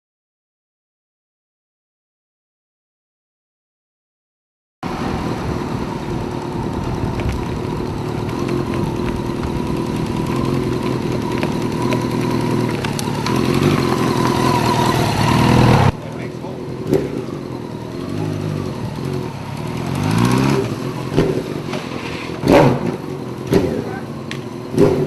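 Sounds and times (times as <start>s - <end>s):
motorcycle engine running: 4.9s - 25.0s.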